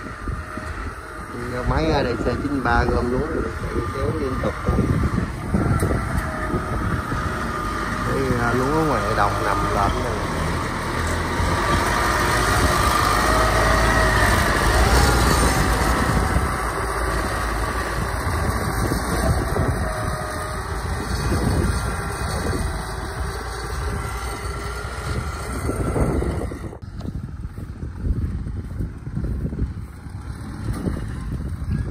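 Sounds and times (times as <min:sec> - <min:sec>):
tracked vehicle engine driving past: 0:00.0 - 0:31.9.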